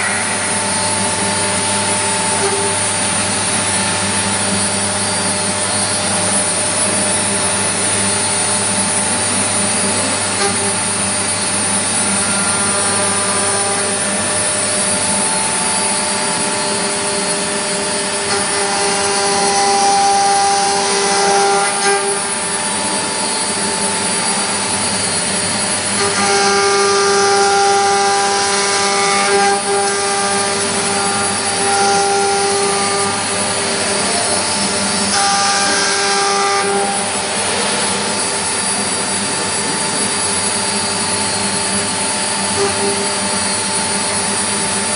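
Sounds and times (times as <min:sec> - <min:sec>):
milling machine motors whining: 0:00.0 - 0:44.9.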